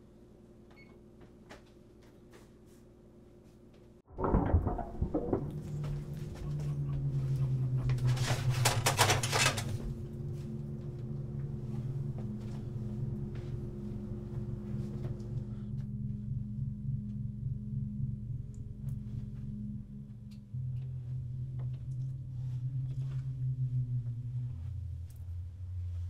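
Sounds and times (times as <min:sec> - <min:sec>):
low steady drone: 0:04.2 - 0:26.0.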